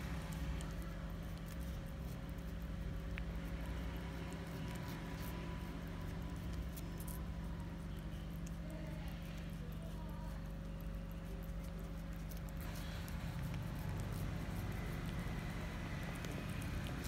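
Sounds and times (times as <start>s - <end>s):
cat licking clicks: 0.0s - 17.0s
steady low hum: 0.0s - 17.0s.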